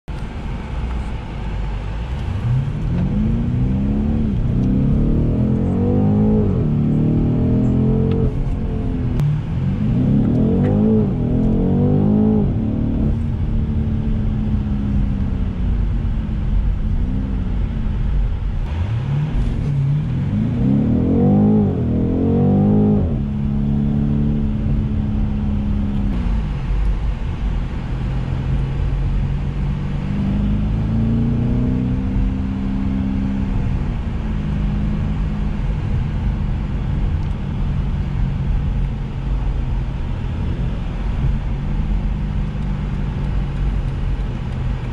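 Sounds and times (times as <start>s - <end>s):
engine cruising hum: 0.1s - 44.9s
car engine revving through gears: 0.5s - 44.9s.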